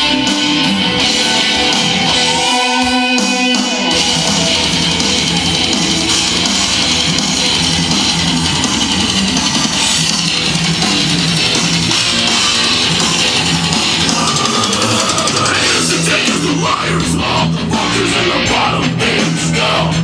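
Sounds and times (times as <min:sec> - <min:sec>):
rock music through speakers: 0:00.0 - 0:20.0.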